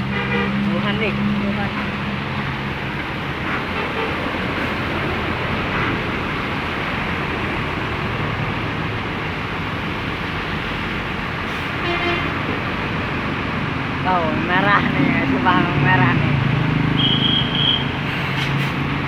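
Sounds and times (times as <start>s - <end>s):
road traffic rumbling: 0.0s - 19.0s.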